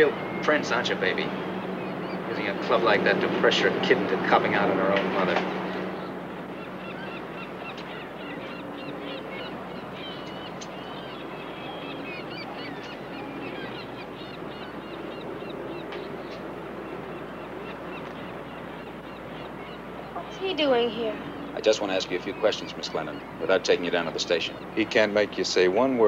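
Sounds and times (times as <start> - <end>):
birds chirping and calling: 0.0 - 26.0
steady background hiss: 0.0 - 26.0.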